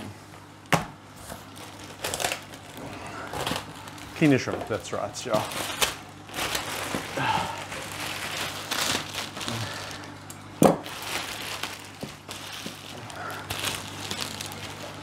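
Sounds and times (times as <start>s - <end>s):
plastic bag crinkling: 1.5s - 10.1s, 10.8s - 15.0s.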